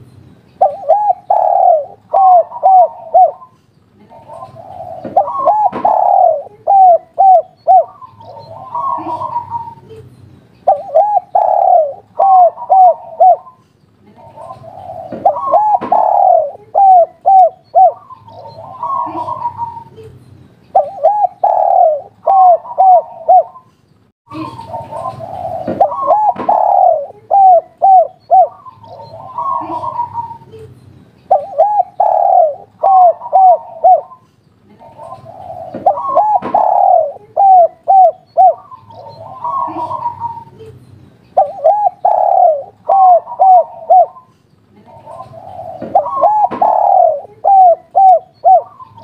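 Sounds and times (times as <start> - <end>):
dove cooing: 0.6 - 10.0, 10.7 - 13.6, 14.2 - 20.0, 20.7 - 23.7, 24.3 - 30.7, 31.3 - 34.2, 34.8 - 40.7, 41.4 - 49.0.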